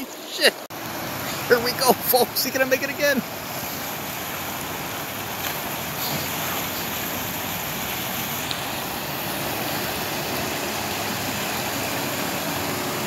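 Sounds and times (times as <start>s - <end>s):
water rushing and splashing: 0.0s - 13.0s
car driving through floodwater: 0.2s - 13.0s.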